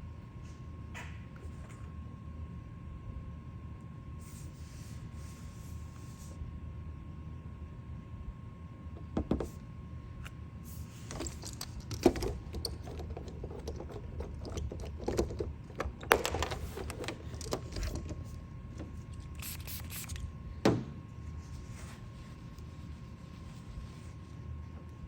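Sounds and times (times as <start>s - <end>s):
faint high hum: 0.0s - 25.0s.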